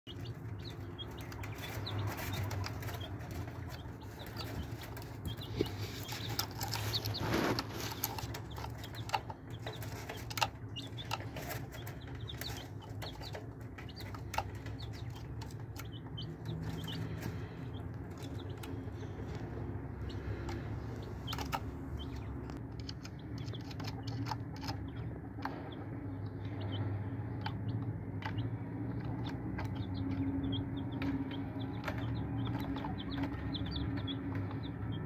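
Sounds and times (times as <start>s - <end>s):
chicks peeping: 0.0s - 35.0s
beaks tapping on plastic: 0.1s - 35.0s
steady low hum: 0.1s - 35.0s.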